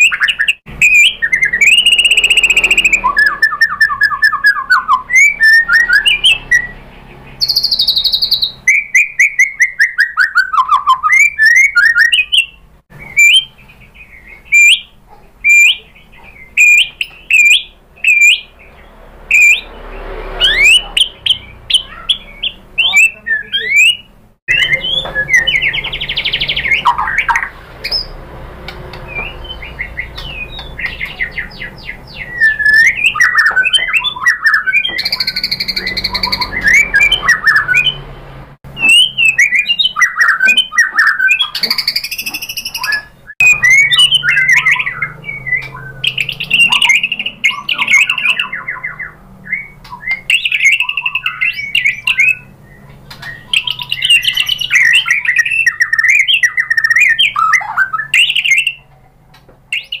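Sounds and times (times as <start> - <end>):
bird singing varied song: 0.0 - 60.0.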